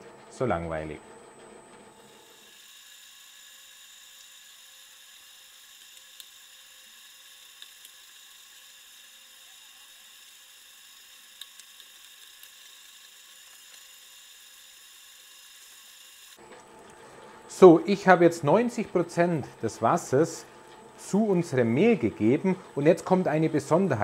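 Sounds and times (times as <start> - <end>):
dough mixer motor whine: 1.7 - 24.0.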